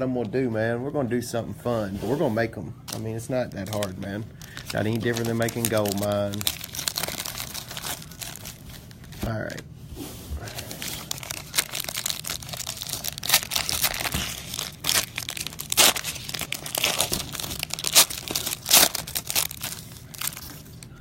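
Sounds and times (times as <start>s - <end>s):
plastic wrapper crinkling: 2.9s - 9.6s, 10.4s - 21.0s.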